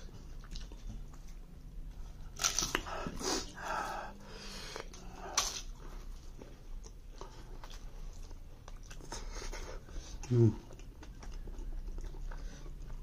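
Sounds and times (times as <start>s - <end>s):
wet chewing and lip smacks: 0.0s - 3.4s, 4.7s - 13.0s.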